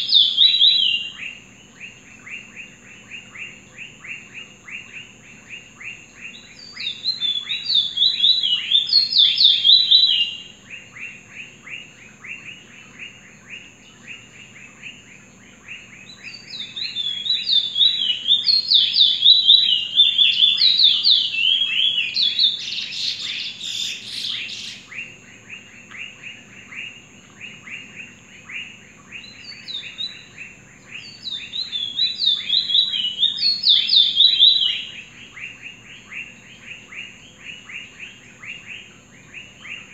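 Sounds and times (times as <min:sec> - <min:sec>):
finch singing warbled song: 0:00.0 - 0:39.9.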